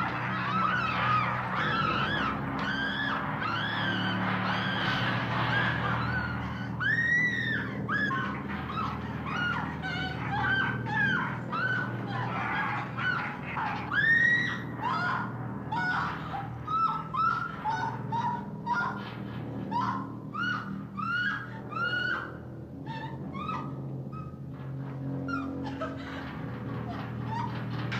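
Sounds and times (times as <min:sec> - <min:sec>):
woman screaming in terror: 0:00.0 - 0:19.1, 0:19.7 - 0:24.3
steady low hum: 0:00.0 - 0:27.9.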